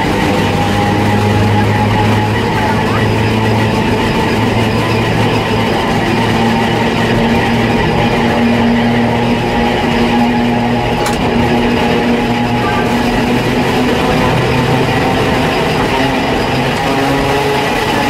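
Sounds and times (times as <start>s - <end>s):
electric hum: 0.0s - 18.0s
tram running on track: 0.0s - 18.0s.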